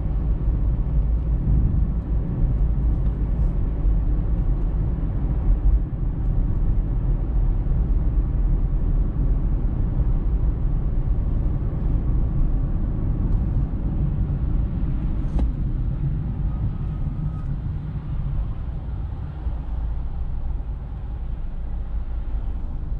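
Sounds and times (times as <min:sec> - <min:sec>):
car road and engine rumble: 0:00.0 - 0:22.9.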